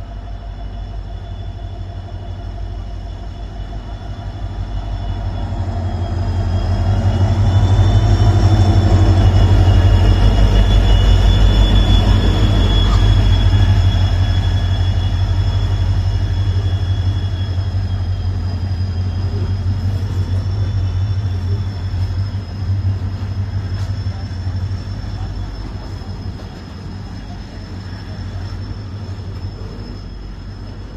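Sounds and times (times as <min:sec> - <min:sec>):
thin high whine: 0:00.0 - 0:30.9.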